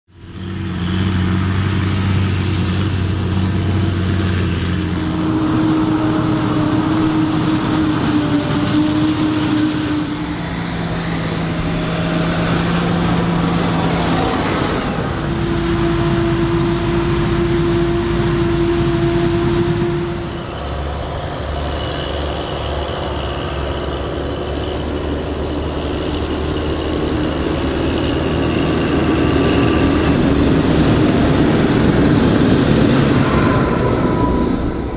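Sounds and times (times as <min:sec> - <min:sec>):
tractor diesel engines running: 0:00.1 - 0:34.9.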